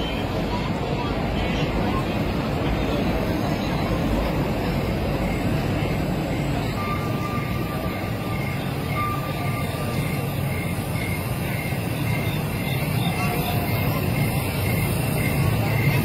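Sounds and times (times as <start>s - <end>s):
faint pulsing high tone: 0.0s - 16.0s
low rumble of city noise: 0.0s - 16.0s.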